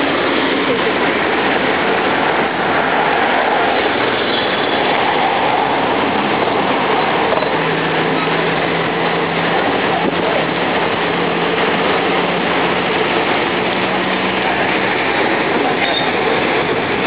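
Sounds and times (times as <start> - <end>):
engine tyre and street noise: 0.0 - 17.0.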